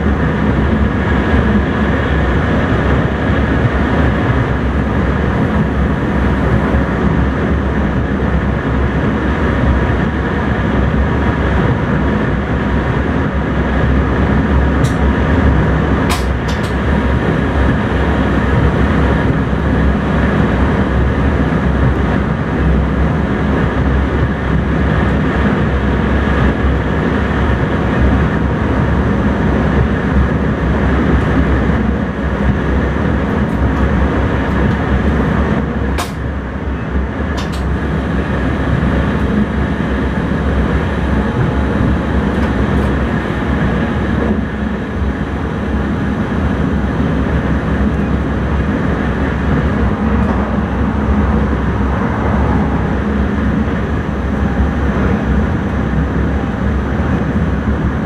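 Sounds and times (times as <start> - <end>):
train cab rumble: 0.0 - 58.0.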